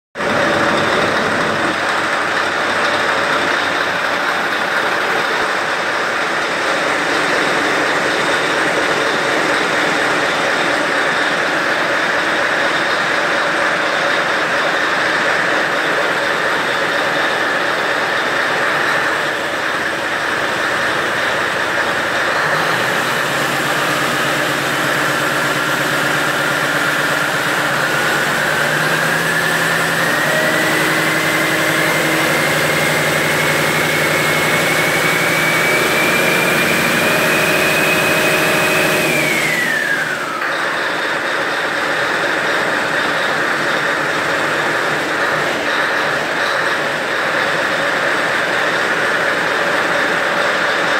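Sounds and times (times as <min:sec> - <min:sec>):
diesel engine running: 0:00.2 - 0:50.9
high engine whine: 0:00.2 - 0:50.9.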